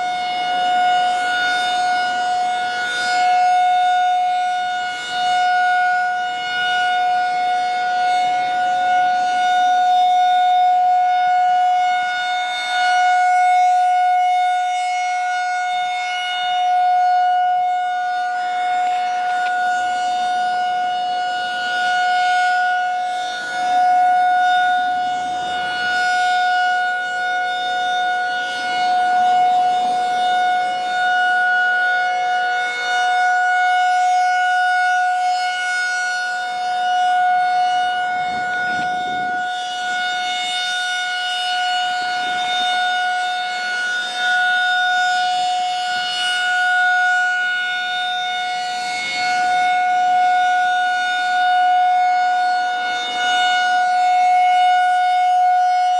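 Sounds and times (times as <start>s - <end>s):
rotating warning siren: 0.0s - 55.9s.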